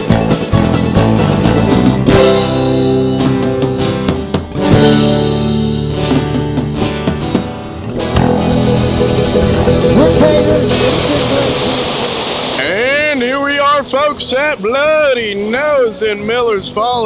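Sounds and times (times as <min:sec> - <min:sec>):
instrumental guitar and drums music: 0:00.0 - 0:17.0.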